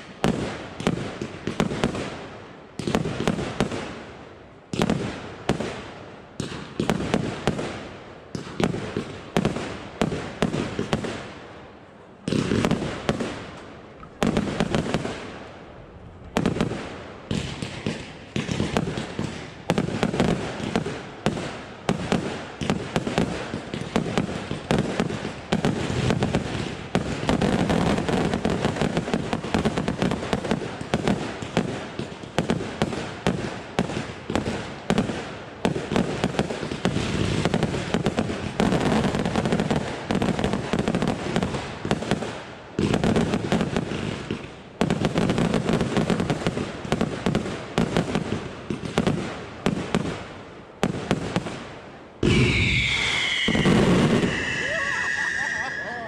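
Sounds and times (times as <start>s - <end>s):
fireworks launching and bursting: 0.0s - 11.5s, 12.2s - 56.0s
continuous fireworks barrage: 0.0s - 56.0s.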